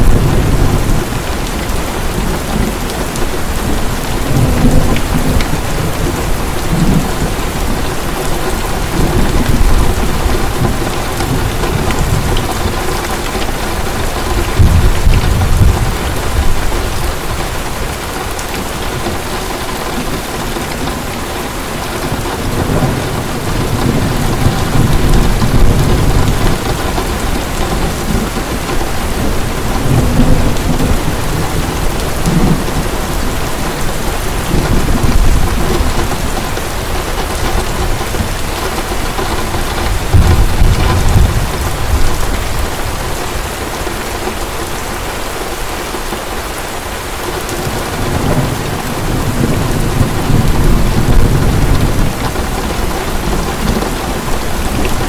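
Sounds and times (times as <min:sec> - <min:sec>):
low thunder rumbles: 0:00.0 - 0:45.0, 0:47.4 - 0:55.0
heavy rain pouring: 0:00.0 - 0:55.0.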